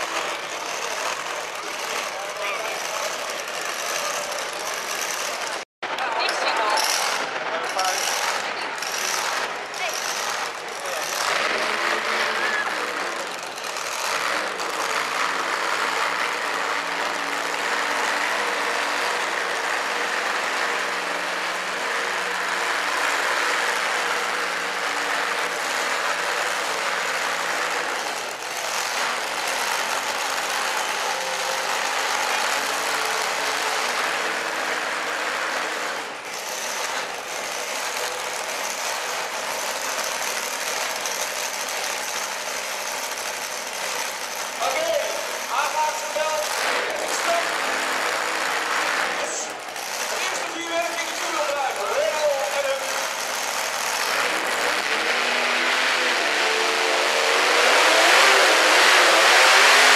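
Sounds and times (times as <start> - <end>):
truck engine idling: 0.0 - 58.9.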